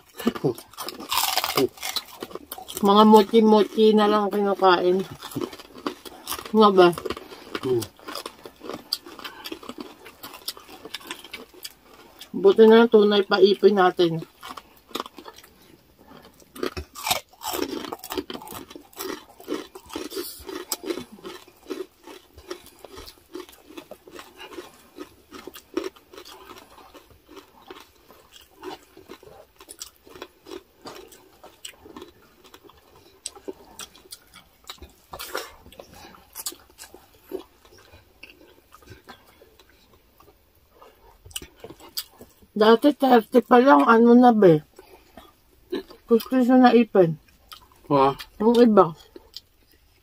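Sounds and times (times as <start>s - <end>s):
crispy pork crunching: 0.0s - 50.0s.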